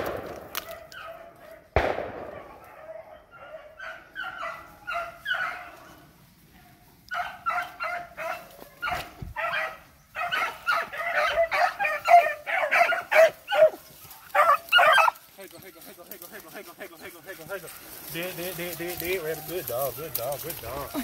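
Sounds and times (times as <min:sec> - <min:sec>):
dogs baying: 0:00.7 - 0:01.7, 0:02.3 - 0:06.1, 0:07.1 - 0:21.0.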